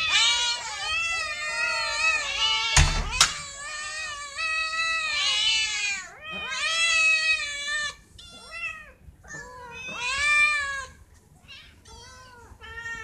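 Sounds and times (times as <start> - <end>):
cats meowing: 0.0 - 13.0.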